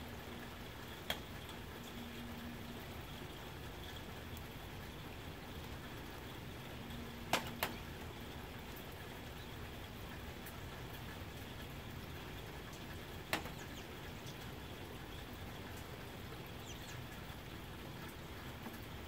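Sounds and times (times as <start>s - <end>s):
rain on a tin roof: 0.0s - 19.0s.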